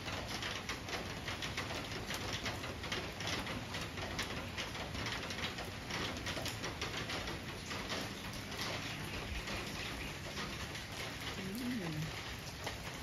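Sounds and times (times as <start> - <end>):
rain pattering on leaves: 0.0 - 13.0.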